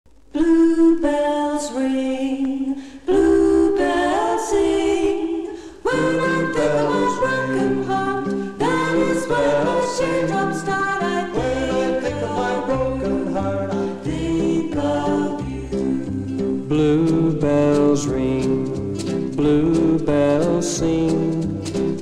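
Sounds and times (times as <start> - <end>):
vocal group singing in harmony: 0.4 - 22.0.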